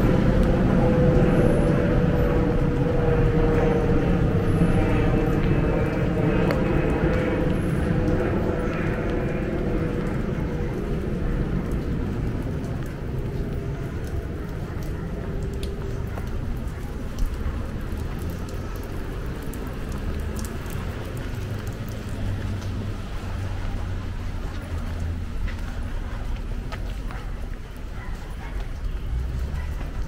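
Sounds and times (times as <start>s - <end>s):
low rumble of traffic: 0.0s - 30.0s
raindrops ticking: 0.1s - 30.0s.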